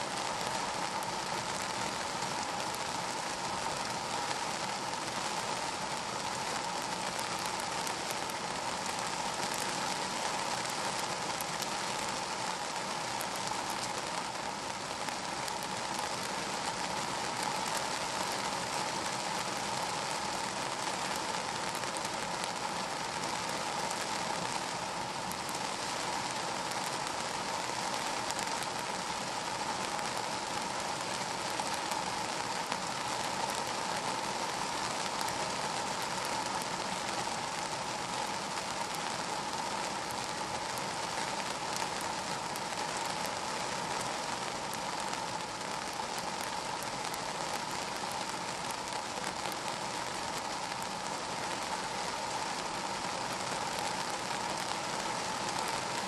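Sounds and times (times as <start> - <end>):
rain on car roof and glass: 0.0 - 56.0.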